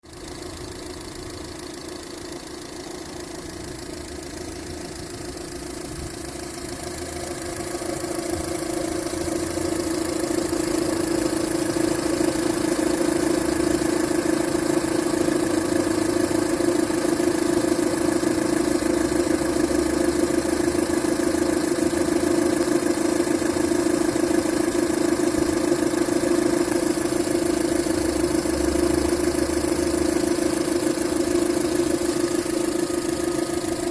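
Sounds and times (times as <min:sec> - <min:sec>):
engine humming steadily: 0:00.0 - 0:33.9.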